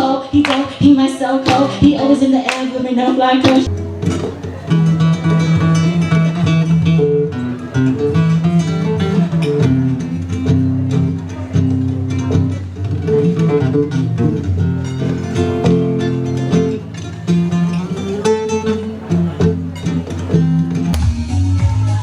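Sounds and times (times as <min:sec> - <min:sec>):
acoustic guitar: 0:00.0 - 0:22.0.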